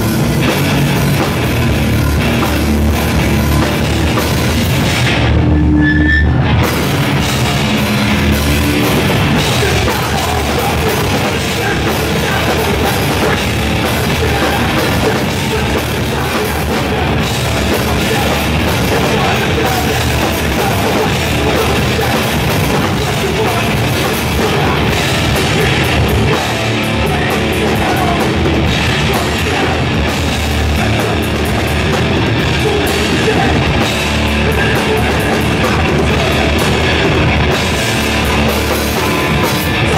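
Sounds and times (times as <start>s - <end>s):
distorted electric guitars: 0.0s - 39.9s
drum kit: 0.0s - 39.9s.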